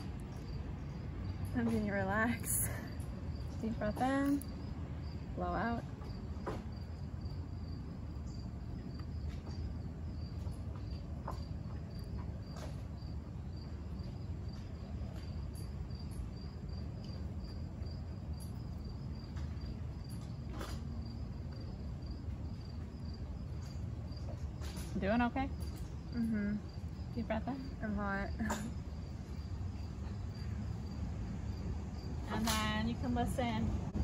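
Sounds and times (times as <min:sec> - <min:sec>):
cricket chirping: 0:00.0 - 0:34.0
steady low rumble: 0:00.0 - 0:34.0.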